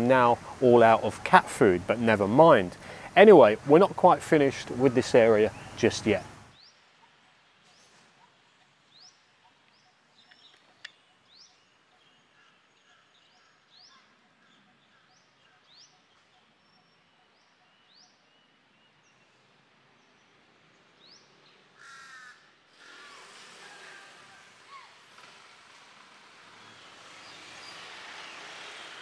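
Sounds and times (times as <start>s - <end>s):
birds chirping: 0.0s - 22.3s, 26.6s - 29.0s
background hiss: 0.0s - 29.0s.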